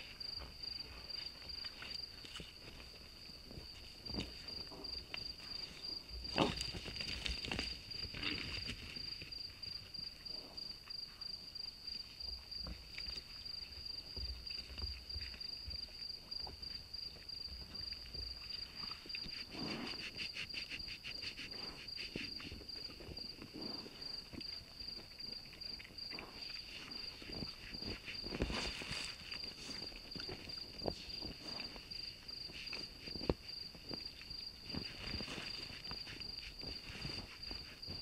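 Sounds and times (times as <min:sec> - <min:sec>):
high insect trill: 0:00.0 - 0:38.0.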